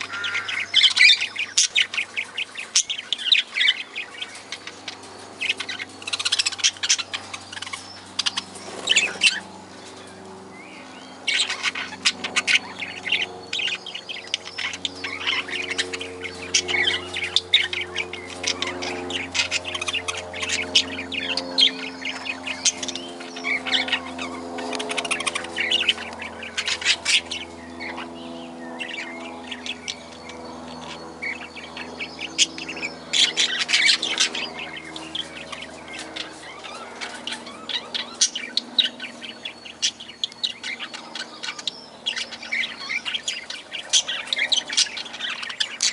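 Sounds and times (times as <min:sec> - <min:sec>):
birds chirping and chattering: 0:00.0 - 0:45.9.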